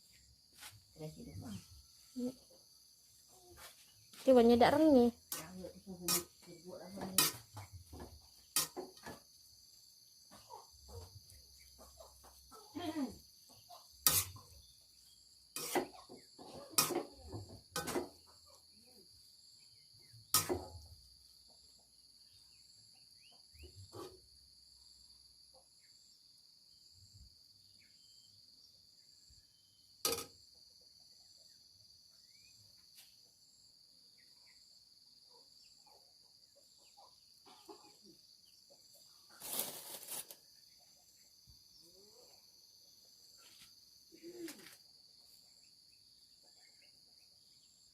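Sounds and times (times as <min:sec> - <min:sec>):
insects chorus: 0:00.0 - 0:47.9.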